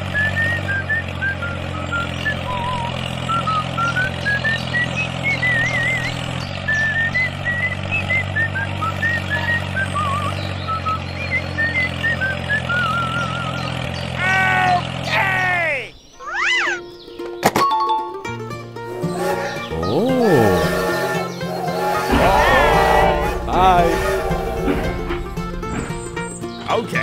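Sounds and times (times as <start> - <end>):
chirpy whistle-like tune: 0.0 - 13.8, 18.9 - 27.0
heavy vehicle engine running: 0.0 - 15.5, 18.6 - 27.0.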